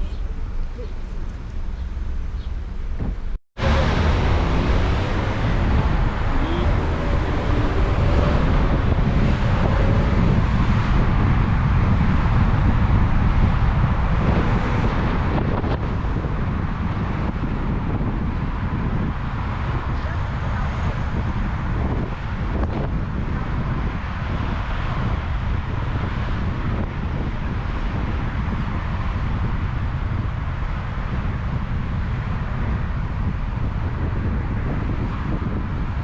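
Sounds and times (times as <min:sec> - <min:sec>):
wind buffeting microphone: 0:02.8 - 0:36.0.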